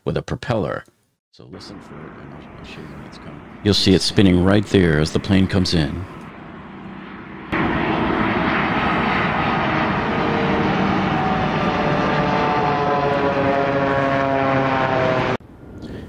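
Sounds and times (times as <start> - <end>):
propeller-like turbine buzz: 1.6 - 15.8
jet airliner flying by: 1.6 - 16.0.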